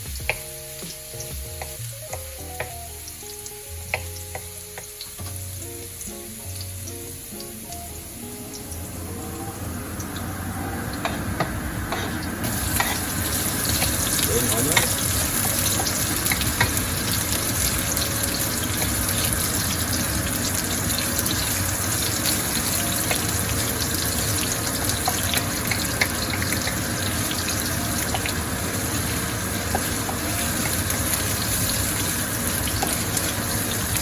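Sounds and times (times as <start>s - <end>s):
oil crackling and popping: 0.0s - 34.0s
onions sizzling in hot oil: 0.0s - 34.0s.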